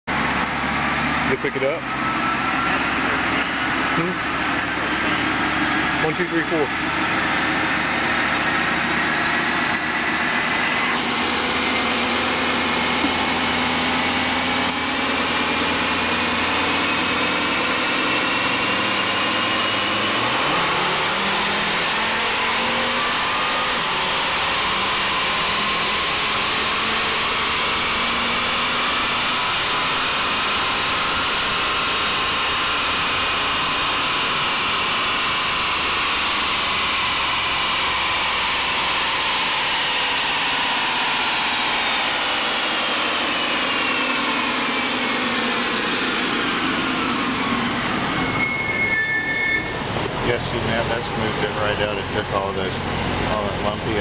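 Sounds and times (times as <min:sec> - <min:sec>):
car engine revving under load: 0:00.1 - 0:54.0.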